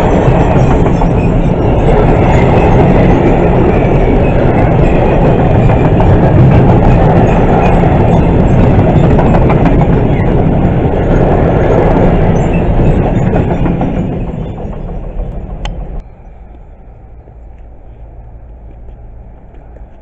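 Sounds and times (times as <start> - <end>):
train wheels rumbling and clacking: 0.0 - 16.7.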